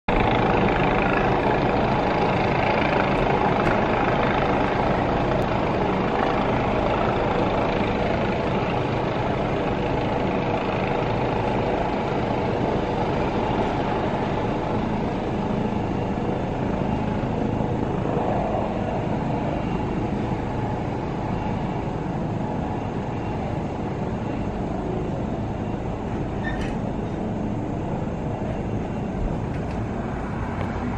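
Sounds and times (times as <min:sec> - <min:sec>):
helicopter rotor and engine: 0:00.1 - 0:30.9.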